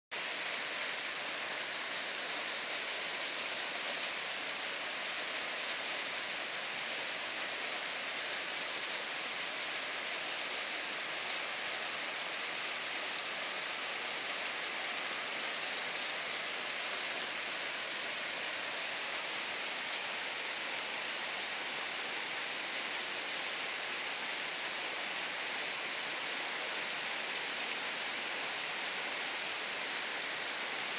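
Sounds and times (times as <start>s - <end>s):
heavy rain on foliage: 0.1s - 30.9s.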